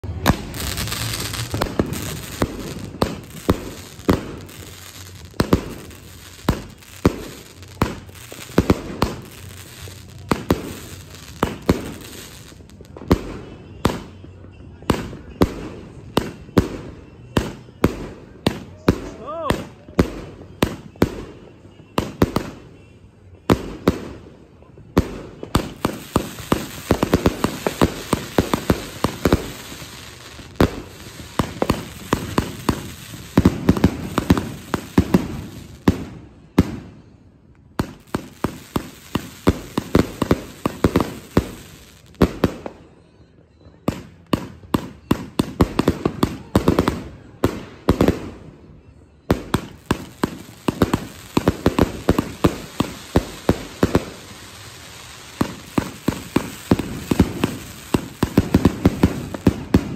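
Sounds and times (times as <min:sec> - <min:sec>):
firework crackle: 0:00.0 - 0:22.7, 0:23.5 - 0:42.9, 0:49.3 - 0:59.9
fireworks shots and bursts: 0:00.0 - 0:43.0, 0:43.8 - 0:59.9.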